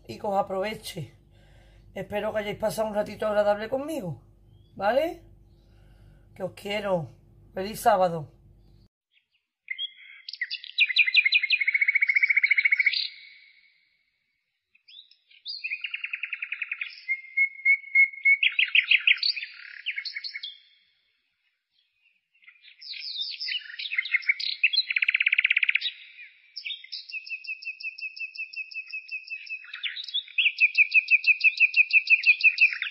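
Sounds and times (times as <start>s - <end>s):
songbird chirps and trills: 0.0s - 32.9s.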